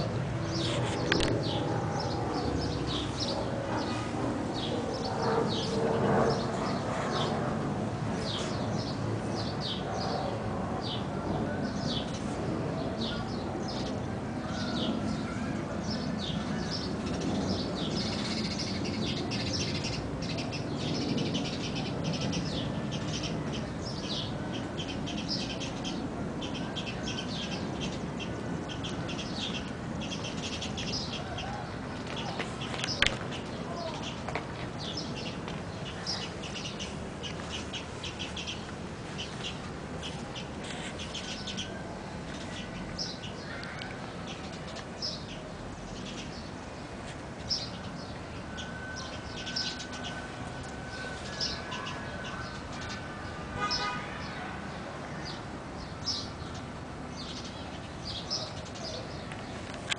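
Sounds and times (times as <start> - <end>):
small birds chirping: 0.0 - 54.4, 55.1 - 59.9.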